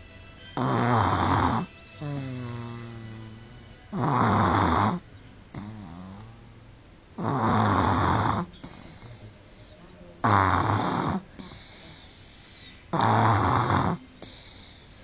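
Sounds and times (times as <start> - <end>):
baby snoring: 0.6 - 6.6, 7.2 - 15.0.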